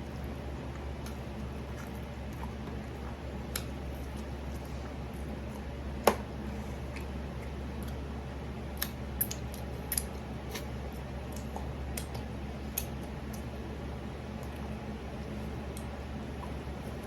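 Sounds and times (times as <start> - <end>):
chewing chicken wings: 0.0 - 17.0
steady low hum: 0.0 - 17.0.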